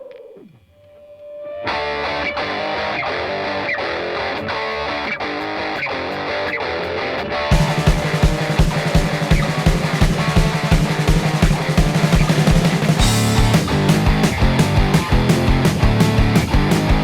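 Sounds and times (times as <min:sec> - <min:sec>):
distorted electric guitar: 0:00.0 - 0:17.0
rock music beat: 0:01.6 - 0:17.0.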